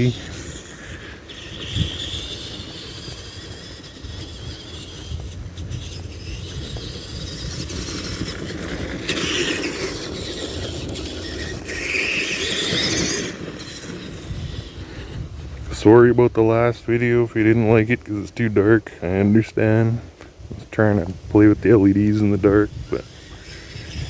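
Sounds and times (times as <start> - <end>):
electric motor and gearbox whining: 0.0 - 19.6, 20.5 - 24.0
tyres rumbling: 0.0 - 24.0.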